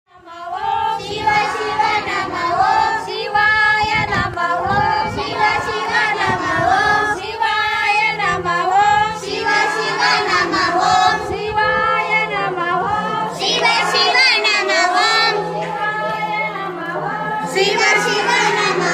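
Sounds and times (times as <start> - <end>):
women and girls singing: 0.1 - 18.9.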